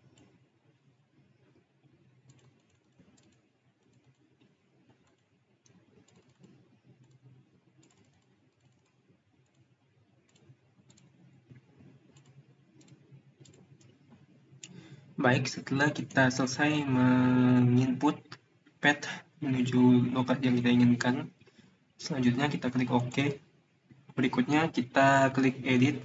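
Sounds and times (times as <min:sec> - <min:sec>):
keyboard typing: 0:00.0 - 0:00.5, 0:01.8 - 0:18.4, 0:19.6 - 0:23.4
low steady hum: 0:00.0 - 0:26.0.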